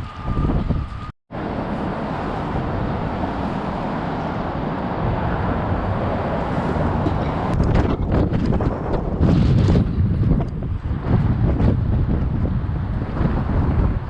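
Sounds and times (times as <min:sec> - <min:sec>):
road traffic noise: 0:00.0 - 0:14.0
wind buffeting the microphone: 0:00.0 - 0:14.0.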